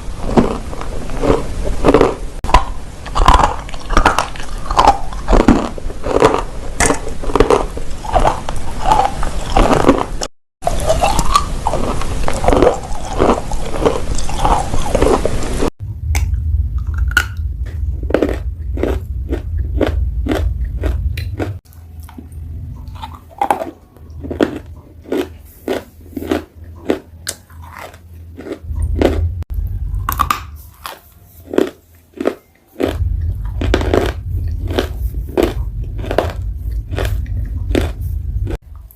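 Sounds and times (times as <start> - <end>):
low hum: 0.0 - 32.1, 32.8 - 38.9
clay crunching as chewed: 0.2 - 15.3, 16.9 - 29.3, 30.0 - 38.9.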